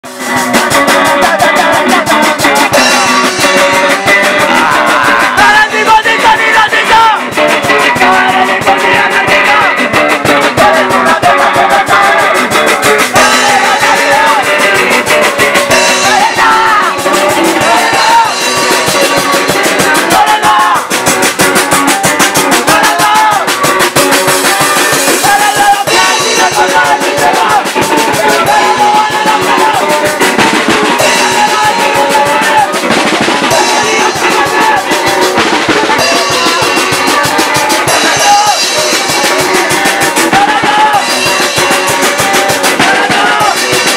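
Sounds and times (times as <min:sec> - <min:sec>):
drum kit struck fast: 0:00.0 - 0:43.9
electric guitars: 0:00.0 - 0:43.9
punk rock band playing: 0:00.0 - 0:43.9.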